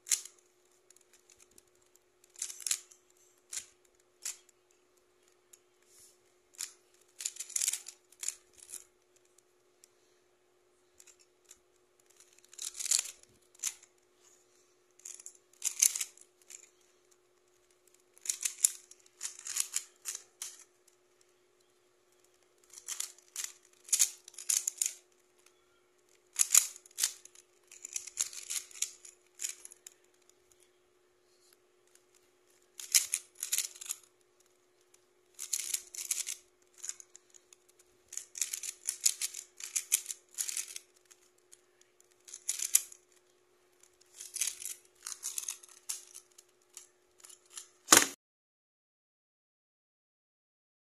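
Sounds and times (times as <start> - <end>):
puzzle cube layers clicking: 0.0 - 5.9, 6.5 - 9.5, 11.0 - 14.0, 15.0 - 30.7, 31.8 - 48.2.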